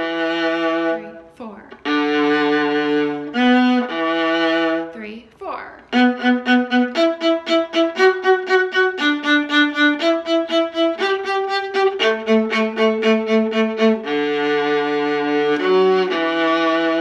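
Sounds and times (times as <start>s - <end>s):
bowed strings playing: 0.0s - 17.0s.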